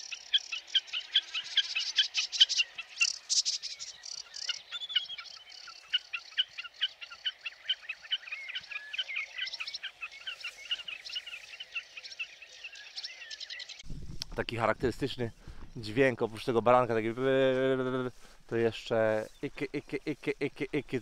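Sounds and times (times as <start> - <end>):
warbling birdsong: 0.0 - 21.0.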